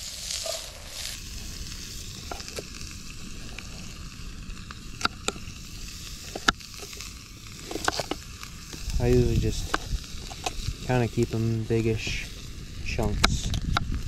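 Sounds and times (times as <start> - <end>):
bacon sizzling: 0.0 - 14.0.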